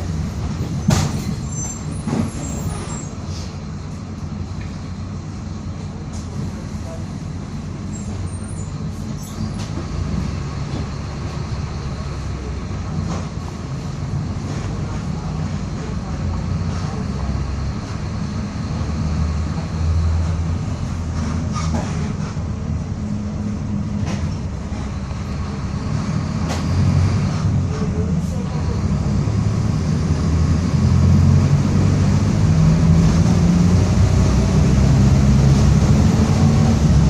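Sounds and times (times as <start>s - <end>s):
bus diesel engine droning: 0.0s - 37.0s.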